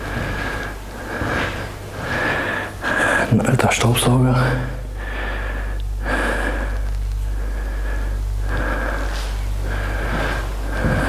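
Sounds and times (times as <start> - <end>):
person breathing heavily: 0.0 - 3.4, 4.2 - 11.0
steady low hum: 0.0 - 11.0.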